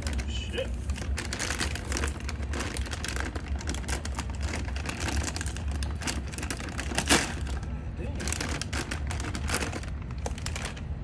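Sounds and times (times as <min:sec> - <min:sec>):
crackling and rustling: 0:00.0 - 0:10.9.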